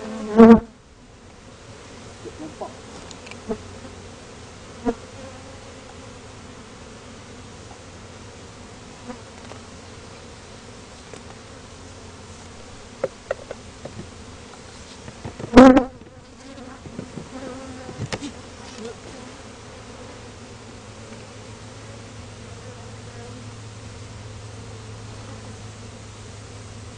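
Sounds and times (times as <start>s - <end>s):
bees buzzing: 0.0s - 26.9s.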